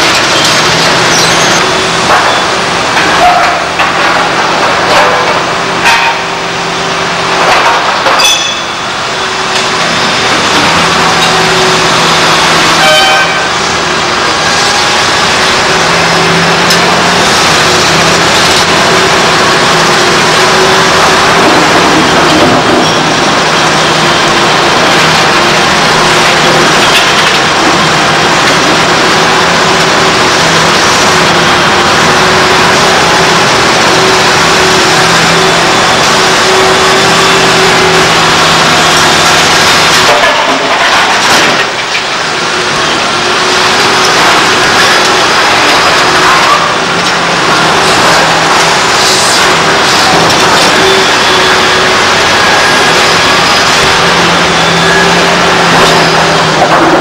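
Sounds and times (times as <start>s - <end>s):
excavator diesel engine running: 0.0s - 57.0s
harsh working noise: 0.0s - 57.0s.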